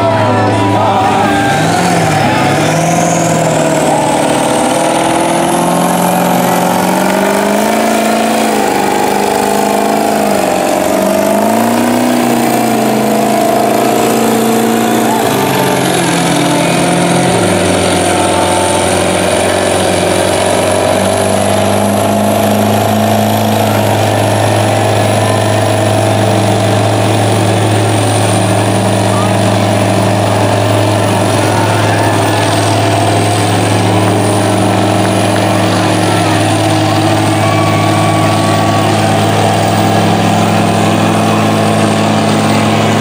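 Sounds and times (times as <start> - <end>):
diesel truck engines revving: 0.0 - 43.0.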